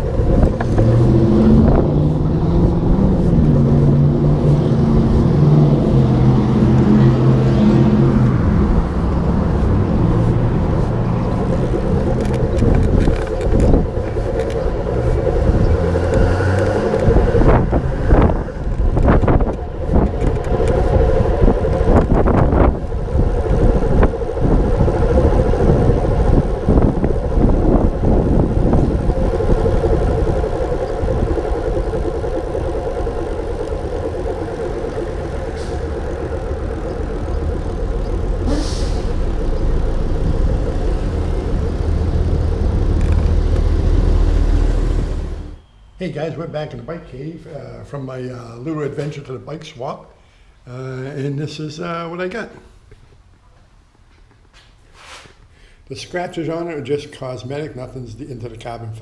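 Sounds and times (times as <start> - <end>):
vehicle road noise: 0.0 - 59.0.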